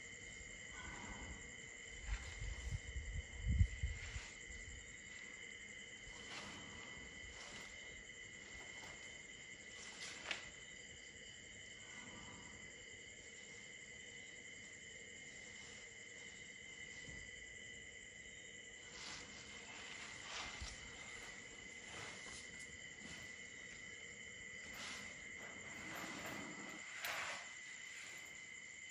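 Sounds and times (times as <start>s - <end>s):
crickets and insects trilling: 0.0s - 28.9s.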